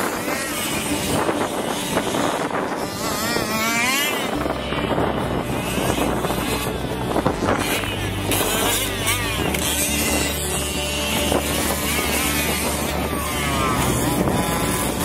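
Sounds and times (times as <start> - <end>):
small two-stroke engine revving: 0.0 - 15.0
wind rumbling on microphone: 0.0 - 15.0.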